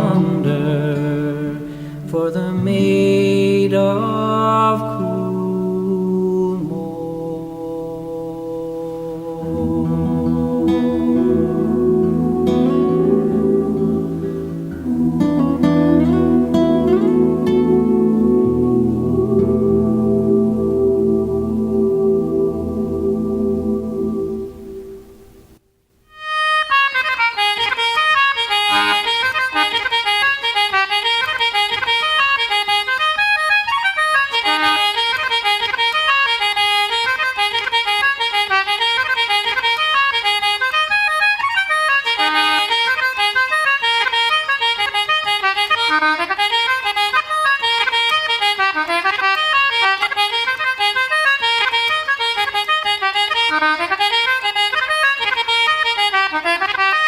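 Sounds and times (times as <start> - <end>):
accordion playing a folk tune: 0.0 - 7.2, 8.9 - 25.2, 26.1 - 57.0.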